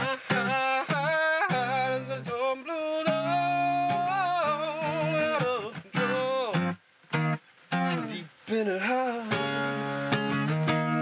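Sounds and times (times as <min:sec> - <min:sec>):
acoustic guitar: 0:00.0 - 0:11.0
person singing country ballad: 0:00.0 - 0:11.0.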